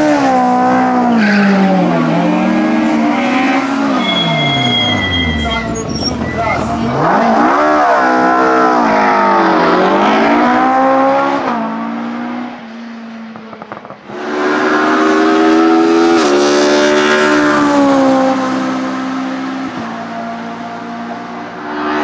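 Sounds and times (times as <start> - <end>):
racing car engine at full throttle: 0.0 - 22.0.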